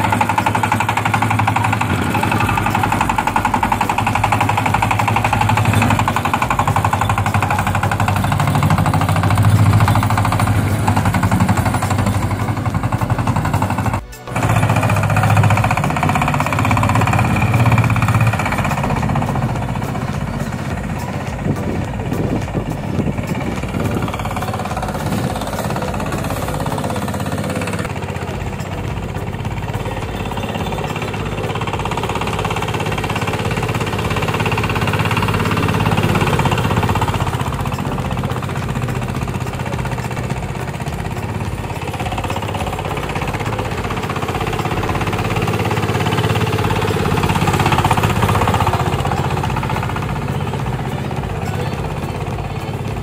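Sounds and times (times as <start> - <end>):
diesel engine knocking under load: 0.0 - 53.0.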